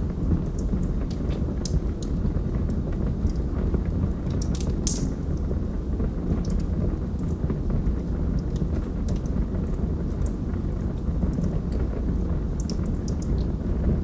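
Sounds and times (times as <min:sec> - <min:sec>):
wood crackling and popping: 0:00.0 - 0:13.6
fire roaring: 0:00.0 - 0:14.0.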